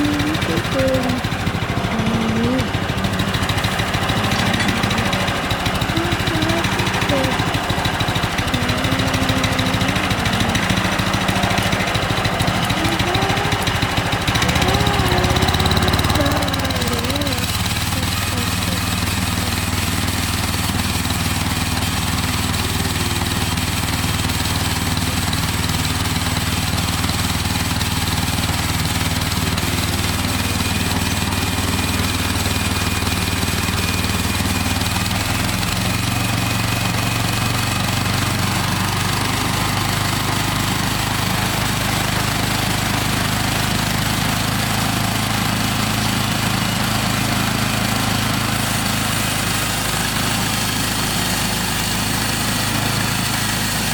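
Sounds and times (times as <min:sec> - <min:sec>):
small engine humming: 0:00.0 - 0:53.9.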